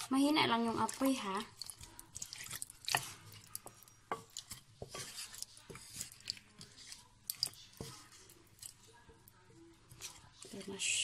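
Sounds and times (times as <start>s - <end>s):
wooden spatula stirring in a pot: 0.0s - 11.0s.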